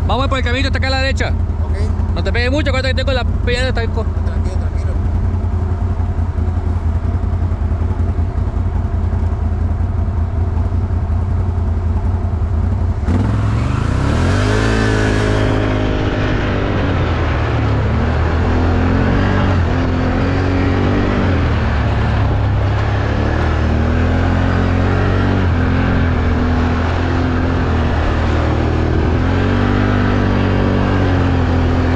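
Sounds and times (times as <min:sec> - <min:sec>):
atv engine revving: 0:00.0 - 0:31.9.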